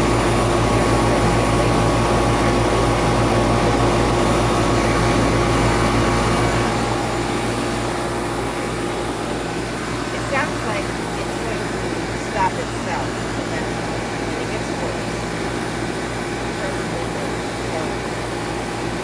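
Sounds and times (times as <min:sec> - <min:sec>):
heating equipment humming: 0:00.0 - 0:19.0.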